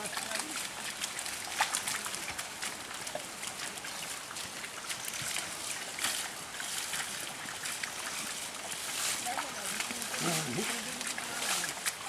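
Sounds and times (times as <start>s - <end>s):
hooves splashing in water: 0.0s - 12.0s
muddy water sloshing and splashing: 0.0s - 12.0s.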